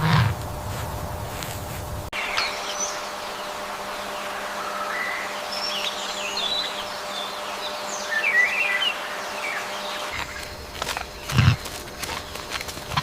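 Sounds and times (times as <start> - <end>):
background hiss: 0.0 - 13.0
small birds chirping: 2.2 - 13.0.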